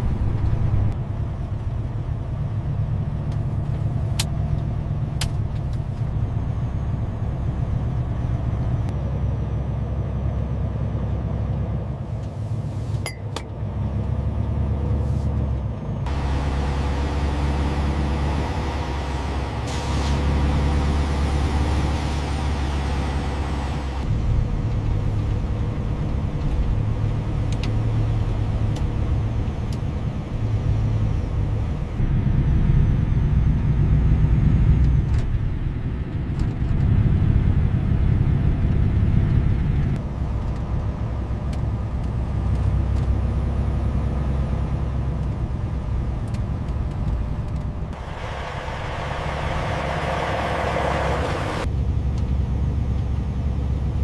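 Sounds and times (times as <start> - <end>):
truck diesel engine rumbling: 0.0 - 54.0.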